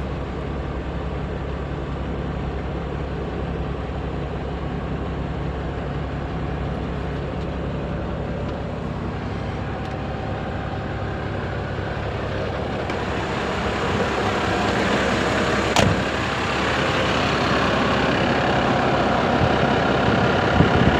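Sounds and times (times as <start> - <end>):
truck diesel engine running: 0.0 - 20.9.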